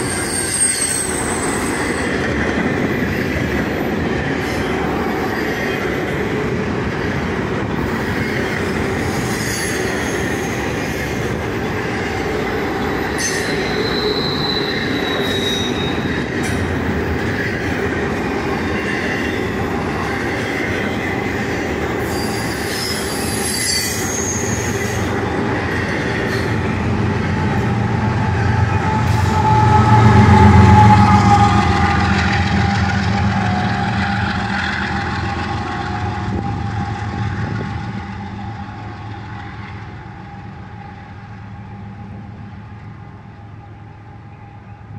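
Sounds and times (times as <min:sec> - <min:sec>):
train wheel squeal: 0:00.0 - 0:06.3, 0:06.9 - 0:41.4
diesel locomotive engine: 0:00.0 - 0:44.9
freight train rolling past: 0:00.0 - 0:44.9.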